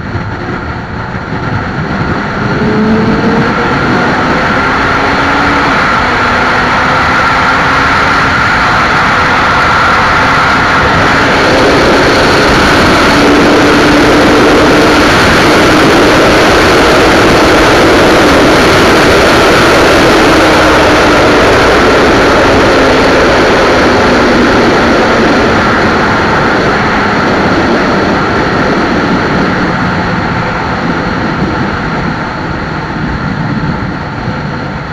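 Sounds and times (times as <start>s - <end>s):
motorcycle engine at full throttle: 0.0s - 34.9s
wind rushing on microphone: 0.0s - 34.9s.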